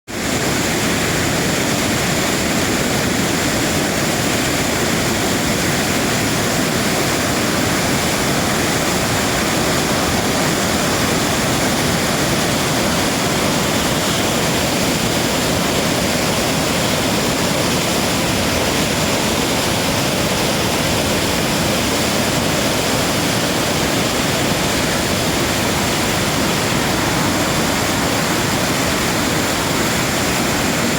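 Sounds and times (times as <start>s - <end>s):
rushing water: 0.1s - 30.9s.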